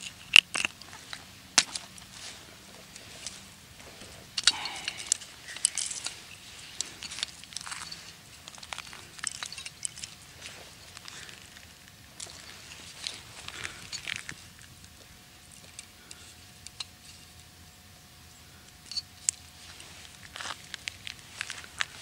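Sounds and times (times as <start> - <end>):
rustling: 0.0 - 17.6, 18.9 - 22.0.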